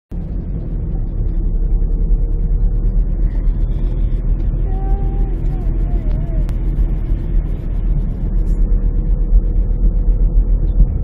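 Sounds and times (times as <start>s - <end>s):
car interior rumble: 0.1s - 11.0s.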